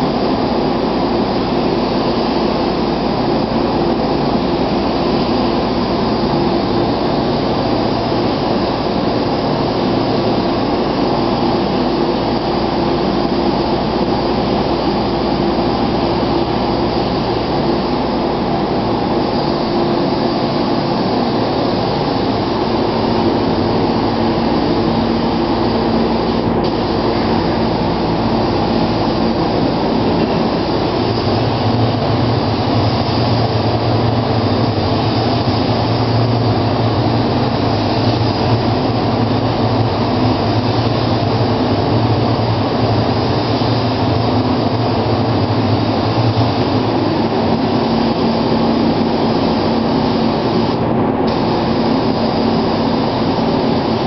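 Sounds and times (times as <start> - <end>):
paint spray gun hissing: 0.0 - 54.0
ventilation rush and hum: 0.0 - 54.0.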